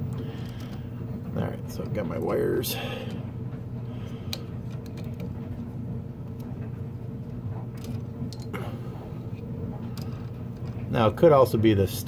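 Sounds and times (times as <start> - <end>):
washer and dryer humming: 0.0 - 12.0.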